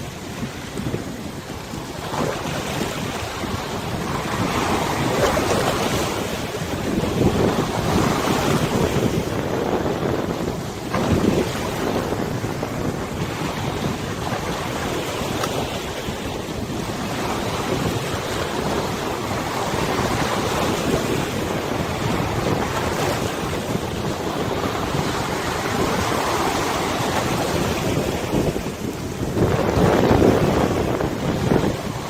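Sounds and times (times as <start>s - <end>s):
river waves washing: 0.0s - 32.0s
wind buffeting microphone: 0.0s - 32.0s.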